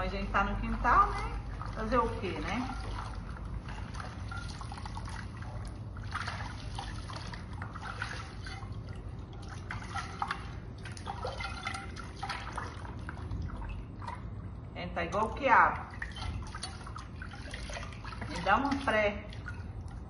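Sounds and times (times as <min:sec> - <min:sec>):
soapy water splashing and dripping: 0:00.0 - 0:14.7, 0:15.4 - 0:20.0.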